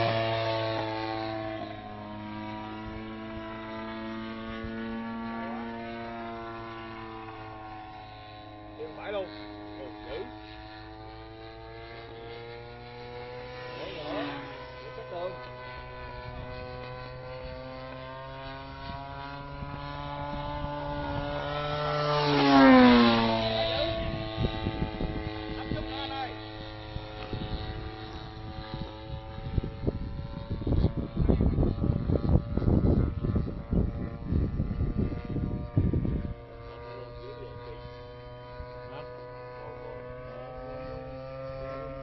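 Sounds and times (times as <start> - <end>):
model airplane engine droning: 0.0 - 42.0.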